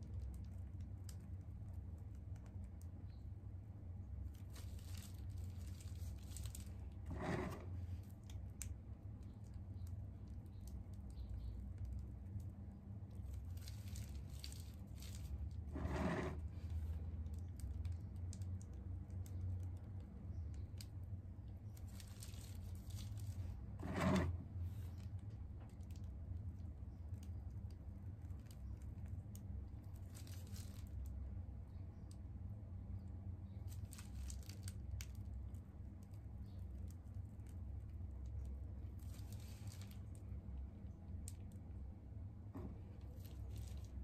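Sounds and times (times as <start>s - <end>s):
plastic piping bag crinkling: 4.0s - 23.8s, 24.7s - 32.4s, 33.0s - 41.8s, 42.5s - 44.0s.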